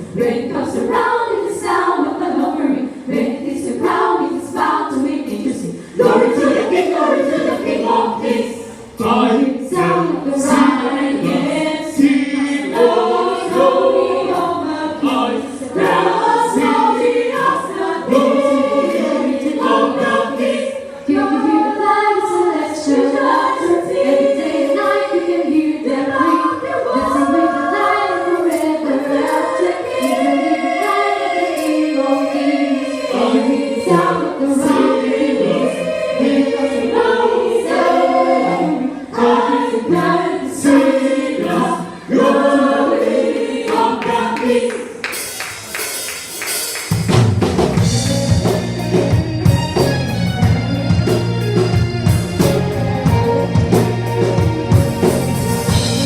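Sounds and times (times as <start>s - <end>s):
choir singing: 0.0s - 46.0s, 50.1s - 56.0s.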